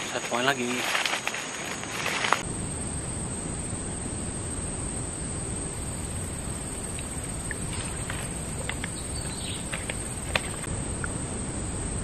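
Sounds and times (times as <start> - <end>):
insects and birds chirping: 0.0 - 12.0
outdoor background hiss: 0.0 - 12.0.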